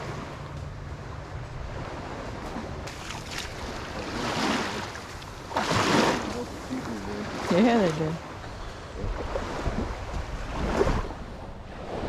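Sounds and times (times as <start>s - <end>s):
small waves washing on shore: 0.0s - 12.0s
wind rumbling on microphone: 0.0s - 12.0s.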